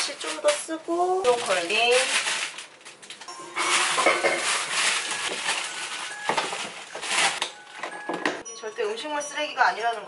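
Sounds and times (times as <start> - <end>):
groceries rustling and crinkling: 0.0 - 8.2.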